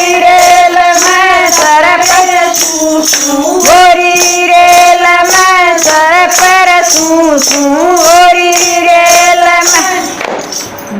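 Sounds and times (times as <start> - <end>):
folk dance song melody: 0.0 - 10.9
jingling percussion beat: 0.0 - 10.9.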